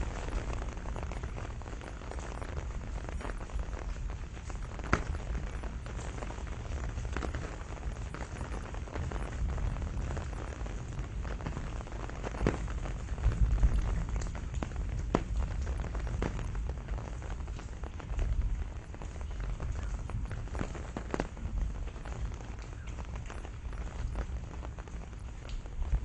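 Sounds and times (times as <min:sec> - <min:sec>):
deep low rumble: 0:00.0 - 0:26.0
raindrops striking close by: 0:00.0 - 0:26.0
steady rain falling: 0:00.0 - 0:26.0.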